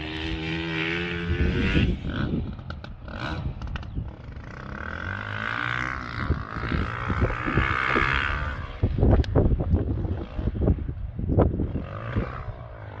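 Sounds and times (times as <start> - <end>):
distant engine droning: 0.0 - 13.0
wind buffeting microphone: 0.0 - 13.0.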